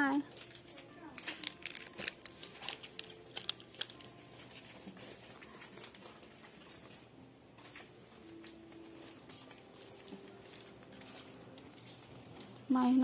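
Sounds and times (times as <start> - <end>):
plastic packets crinkling: 0.0 - 7.0, 8.8 - 12.6
faint shop background: 0.0 - 13.0.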